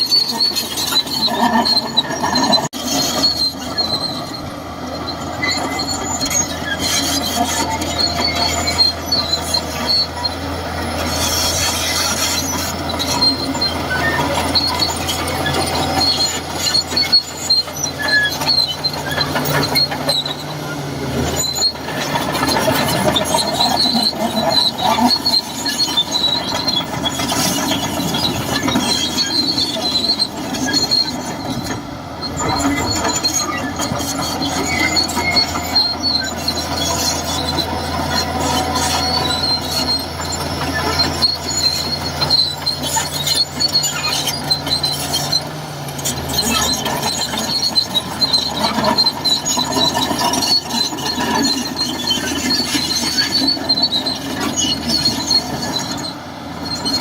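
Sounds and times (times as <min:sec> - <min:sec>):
bulldozer diesel engine running: 0:00.0 - 0:57.0
steel tracks squealing: 0:00.0 - 0:57.0.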